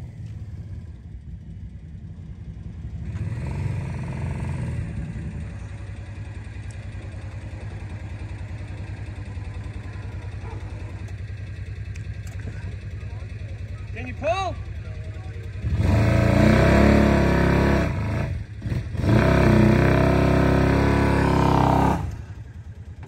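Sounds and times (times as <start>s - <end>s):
utility vehicle engine idling: 0.0s - 23.0s.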